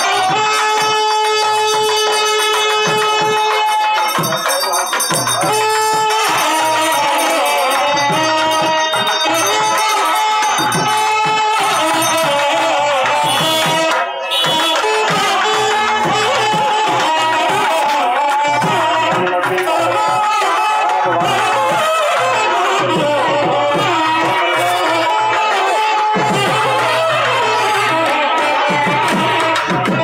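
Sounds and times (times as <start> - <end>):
continuous drumming: 0.0 - 30.0.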